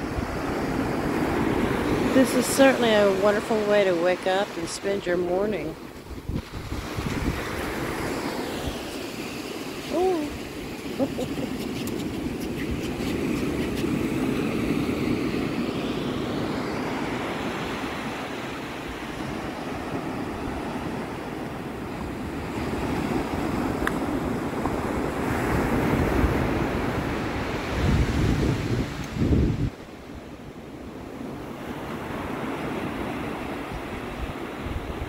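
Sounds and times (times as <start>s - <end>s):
ocean surf washing up beach: 0.0s - 35.0s.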